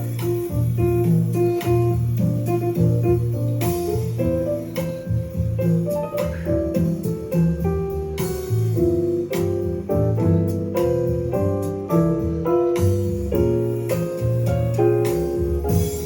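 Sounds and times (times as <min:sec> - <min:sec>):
jazzy piano instrumental: 0:00.0 - 0:16.0.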